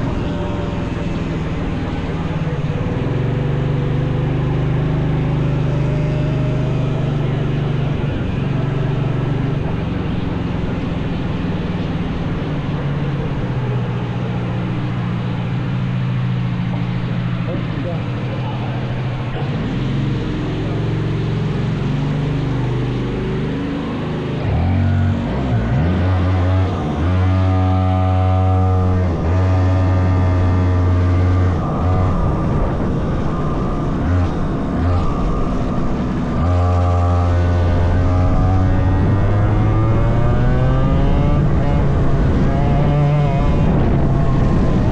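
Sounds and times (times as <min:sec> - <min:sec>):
small racing engine running: 0:00.0 - 0:44.9.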